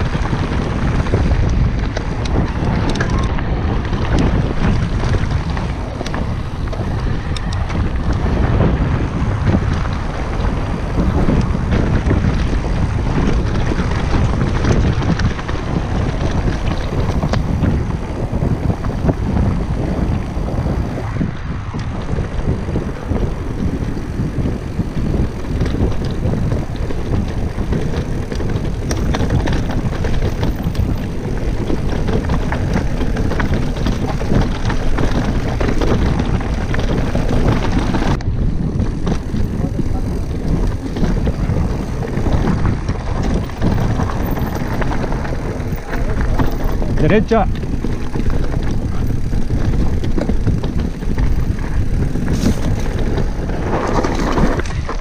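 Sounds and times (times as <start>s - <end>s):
bike clicks and rattles: 0.0s - 55.0s
bike tyres rolling on gravel: 0.0s - 55.0s
wind buffeting microphone: 0.0s - 55.0s.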